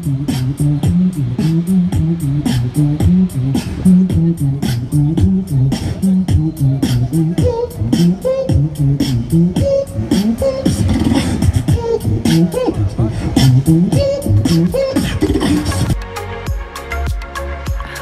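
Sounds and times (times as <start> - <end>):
beatboxing through an amplifier: 0.0 - 18.0.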